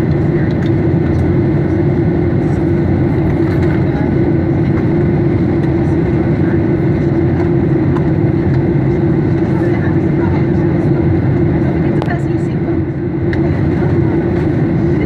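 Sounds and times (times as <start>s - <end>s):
airliner in-flight engine drone: 0.0s - 15.0s.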